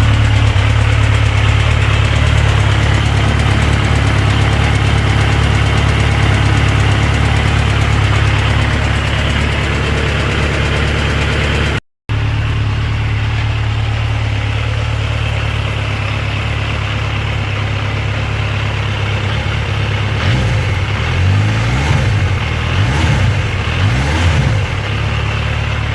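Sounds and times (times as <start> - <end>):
motorcycle engine idling and revving: 0.0 - 25.9.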